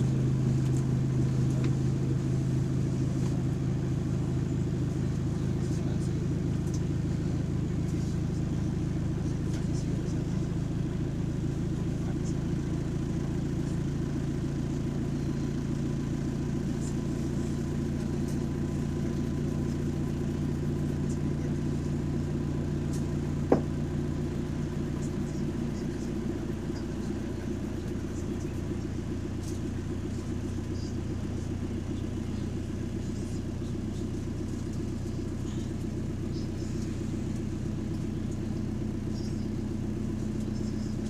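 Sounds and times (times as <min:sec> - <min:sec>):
bus engine droning: 0:00.0 - 0:41.0.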